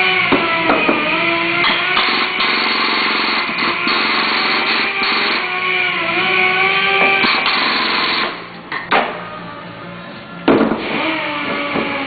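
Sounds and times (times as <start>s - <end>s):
hydraulic pump running: 0.0s - 8.8s, 10.5s - 12.0s.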